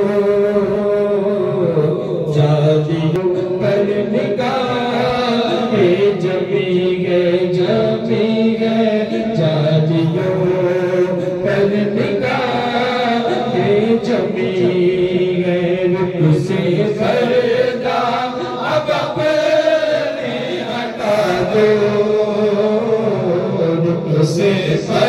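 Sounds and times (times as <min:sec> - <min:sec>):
men chanting a hymn: 0:00.0 - 0:25.0.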